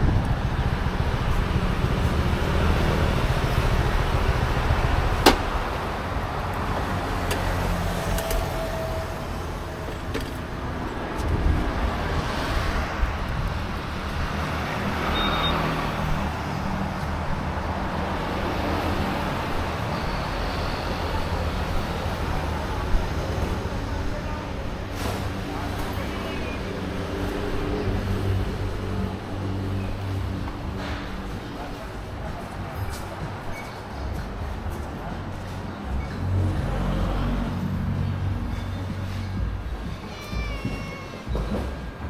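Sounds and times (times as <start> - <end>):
motorbike engine and wind rumble: 0.0 - 40.6
traffic noise: 0.0 - 42.0.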